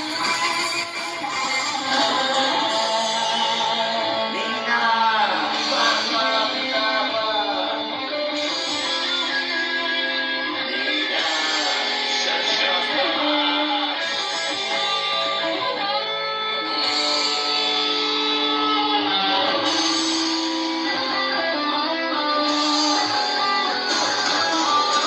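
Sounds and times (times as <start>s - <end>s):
guitar music: 0.0s - 25.0s.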